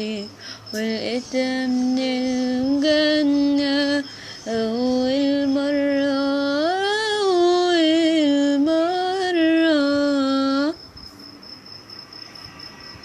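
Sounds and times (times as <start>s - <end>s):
woman singing wordless phrase: 0.0s - 10.8s
faint high chirping: 0.0s - 13.0s.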